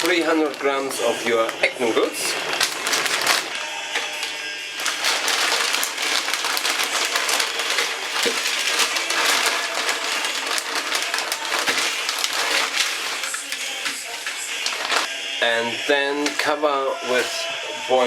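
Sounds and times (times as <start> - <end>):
dry noodles crackling and snapping: 0.0 - 15.1.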